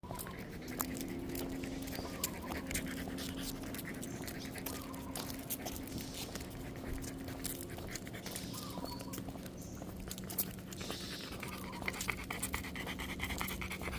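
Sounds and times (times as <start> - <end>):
dog claws clicking on ground: 0.0 - 13.9
footsteps: 0.0 - 13.9
steady low hum: 0.1 - 13.9.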